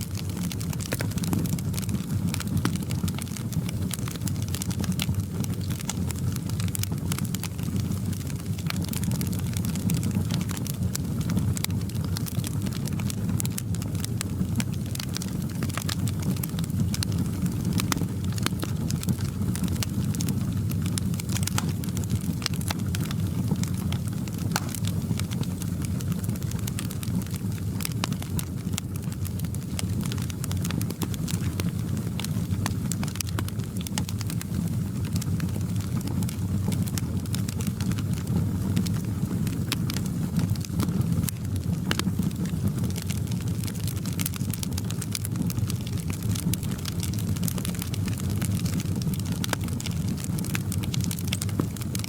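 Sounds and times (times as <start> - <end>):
burning wood crackling and popping: 0.0 - 52.0
fireplace fire roaring: 0.0 - 52.0.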